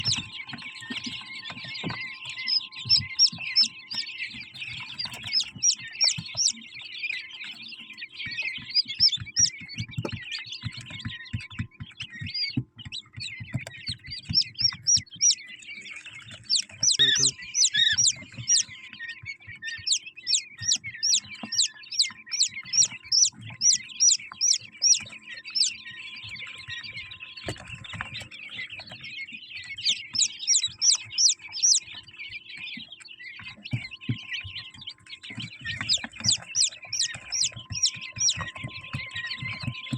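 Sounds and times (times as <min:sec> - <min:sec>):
quail chirping: 0:00.0 - 0:39.9.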